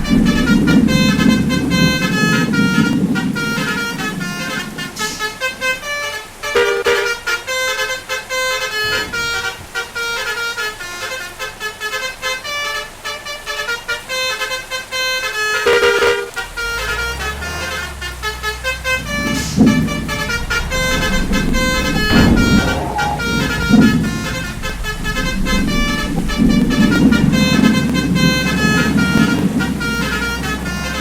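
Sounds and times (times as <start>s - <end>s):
low engine rumble: 0.0s - 10.5s, 15.0s - 31.0s
musical bus horn melody: 0.0s - 31.0s.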